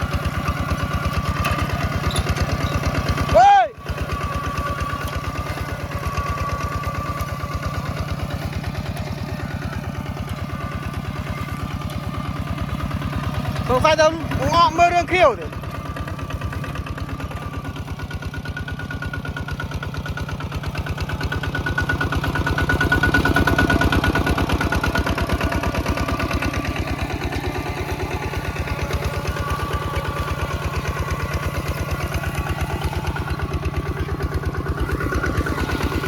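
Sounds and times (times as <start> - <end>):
tractor engine under load: 0.0 - 36.0.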